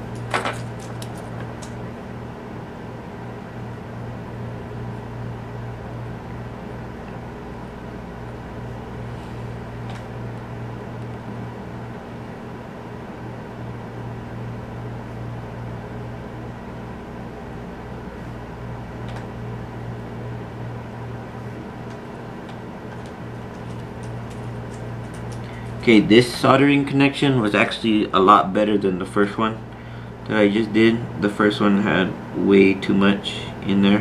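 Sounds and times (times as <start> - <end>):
motor hum: 0.0 - 34.0.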